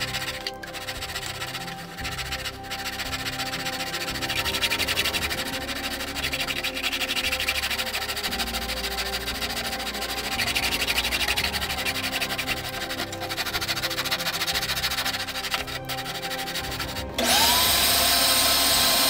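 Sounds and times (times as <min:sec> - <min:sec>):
sandpaper rasping on wood: 0:00.0 - 0:19.0
soft background music: 0:00.0 - 0:19.0.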